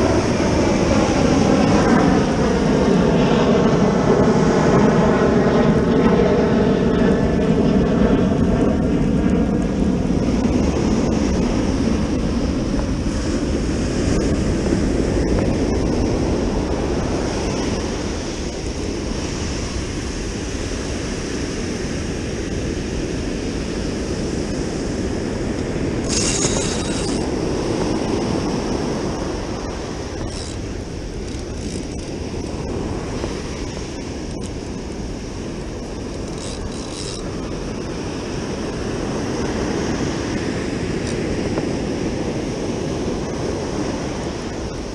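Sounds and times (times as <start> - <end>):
ocean surf washing: 0.0 - 6.3, 7.6 - 44.9
aircraft engine passing: 0.0 - 44.9
wind buffeting microphone: 0.0 - 44.9.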